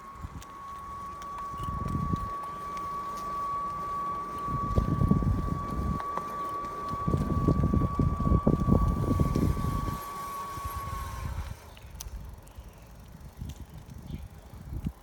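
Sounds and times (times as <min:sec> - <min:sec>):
e-bike wheel whine: 0:00.0 - 0:15.0
gusty wind: 0:00.0 - 0:15.0
road rumble: 0:00.0 - 0:15.0.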